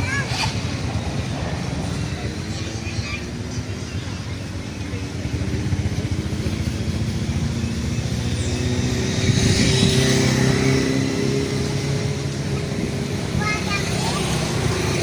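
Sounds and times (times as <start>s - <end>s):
motor engine running: 0.8s - 15.0s.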